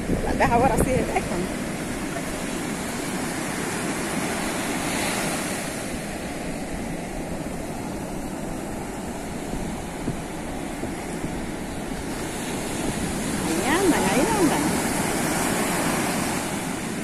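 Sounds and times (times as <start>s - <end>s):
ocean waves washing on beach: 0.0s - 17.0s.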